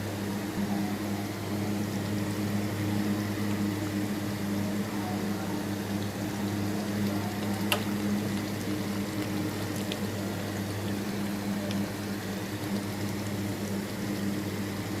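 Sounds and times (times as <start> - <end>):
food simmering and bubbling: 0.0 - 15.0
steady low hum: 0.0 - 15.0.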